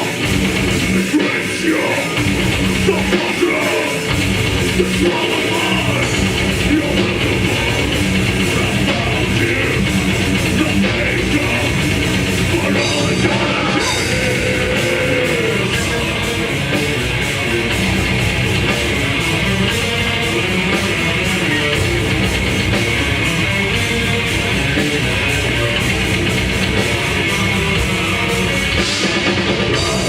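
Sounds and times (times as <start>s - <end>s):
bass guitar: 0.0s - 30.0s
distorted electric guitars: 0.0s - 30.0s
drums: 0.0s - 30.0s.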